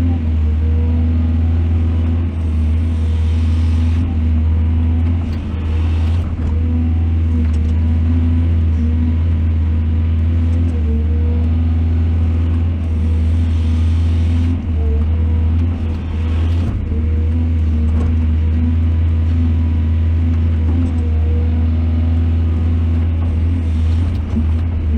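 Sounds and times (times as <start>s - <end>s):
excavator engine running: 0.0s - 24.9s.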